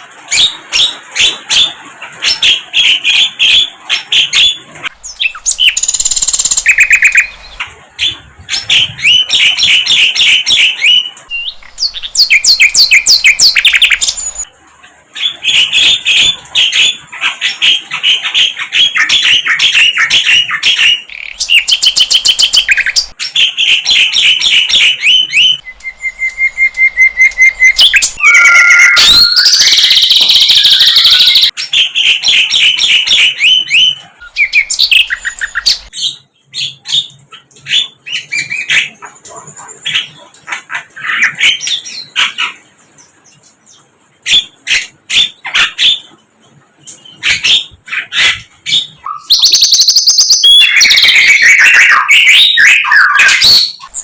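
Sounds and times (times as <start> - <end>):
bird chirps and trills: 0.0 - 54.0.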